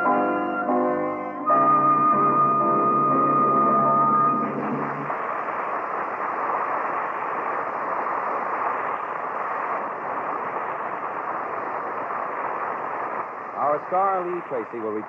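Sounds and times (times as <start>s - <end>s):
old recording hiss: 0.0s - 15.0s.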